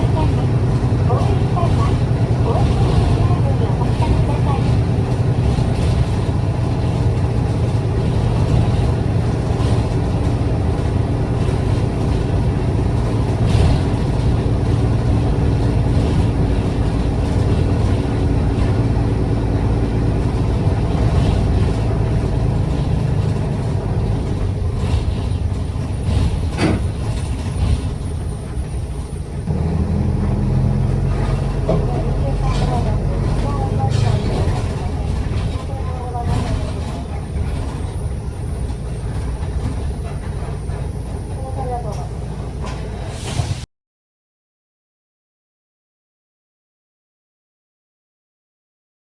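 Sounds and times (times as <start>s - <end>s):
bus diesel engine running: 0.0s - 43.7s
road rumble: 0.0s - 43.7s.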